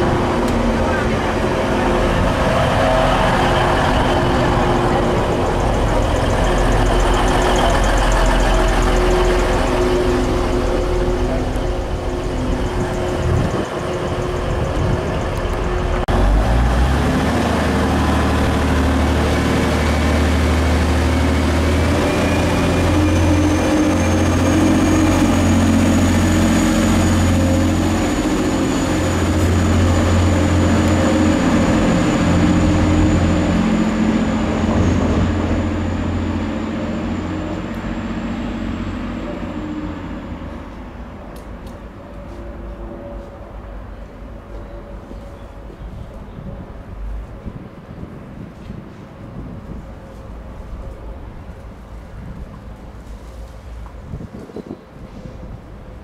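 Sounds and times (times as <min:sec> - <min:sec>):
diesel train engines revving: 0:00.0 - 0:56.0.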